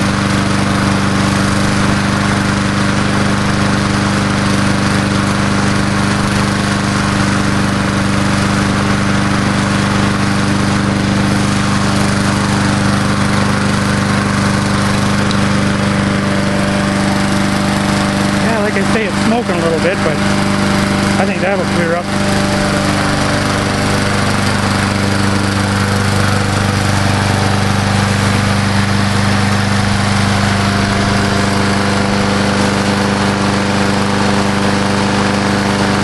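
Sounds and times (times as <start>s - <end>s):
lawn mower engine running: 0.0s - 36.0s.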